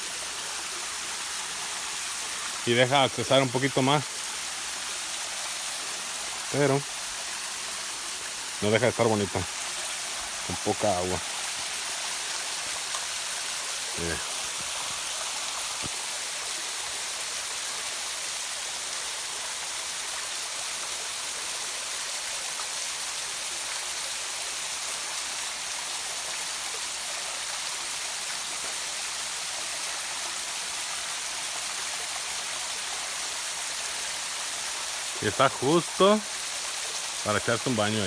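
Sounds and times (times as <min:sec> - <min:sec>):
small waterfall splashing: 0:00.0 - 0:38.0.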